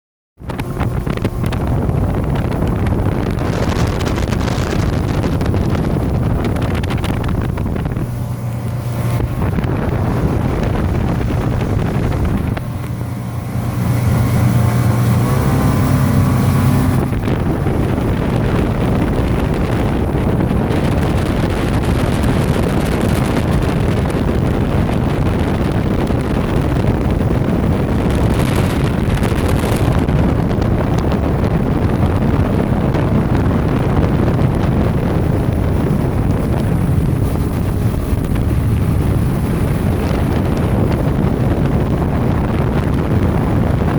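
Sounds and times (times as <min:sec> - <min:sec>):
motorboat engine running: 0:00.4 - 0:43.9
water rushing against hull: 0:00.4 - 0:43.9
wind buffeting microphone: 0:00.4 - 0:43.9.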